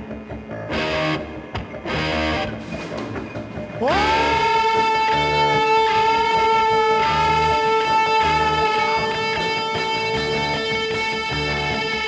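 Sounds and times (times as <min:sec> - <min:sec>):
repeating bass notes: 0:00.0 - 0:12.0
electric guitar sustained note: 0:00.6 - 0:02.6, 0:03.8 - 0:12.0.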